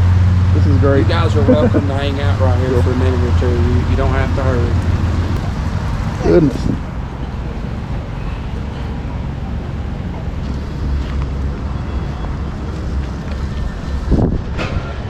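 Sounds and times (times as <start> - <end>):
wind buffeting microphone: 0.7 - 15.0.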